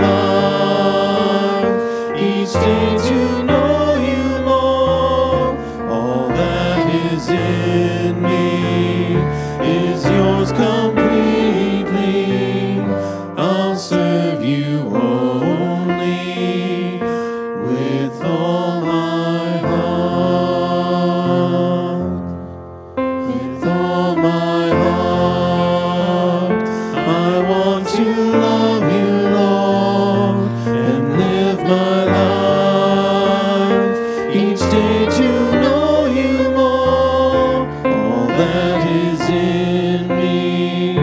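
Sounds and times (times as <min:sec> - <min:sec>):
worship song with instruments: 0:00.0 - 0:41.0.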